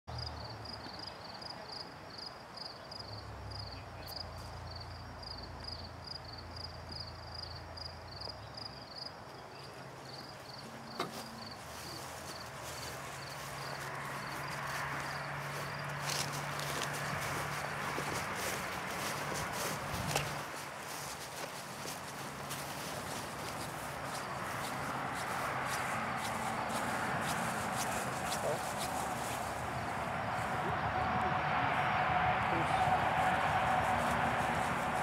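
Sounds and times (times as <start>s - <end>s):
insect chirping: 0.1s - 30.6s
faint outdoor background noise: 0.1s - 35.0s.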